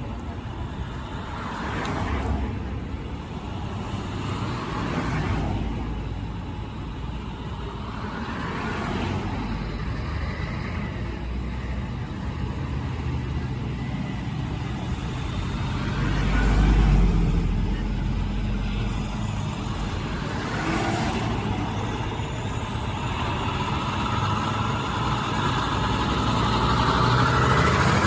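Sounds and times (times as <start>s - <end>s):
cars passing: 0.0s - 28.0s
low traffic rumble: 0.0s - 28.0s.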